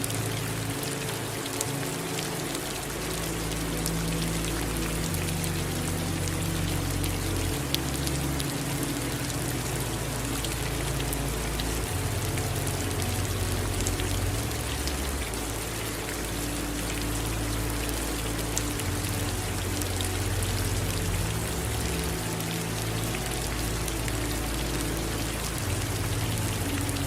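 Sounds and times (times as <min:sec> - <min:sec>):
low sustained tones: 0:00.0 - 0:27.0
steady rain falling: 0:00.0 - 0:27.0.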